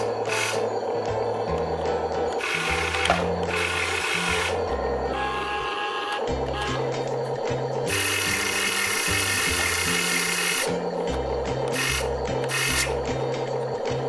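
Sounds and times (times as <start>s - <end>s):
acoustic rock music: 0.0s - 5.6s, 6.2s - 14.0s
toy excavator motors whirring: 0.0s - 7.0s, 7.8s - 10.8s, 11.6s - 13.1s.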